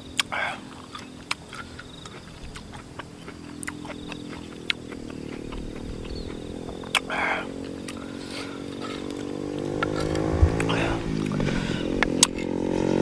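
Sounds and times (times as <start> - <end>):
engine hum: 0.0 - 13.0
chewing: 0.1 - 12.4.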